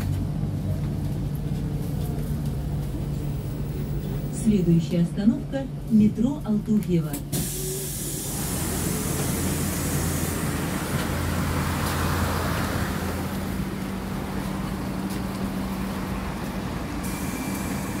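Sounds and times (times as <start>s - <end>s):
electric bus hum: 0.0s - 18.0s
street traffic: 0.0s - 18.0s.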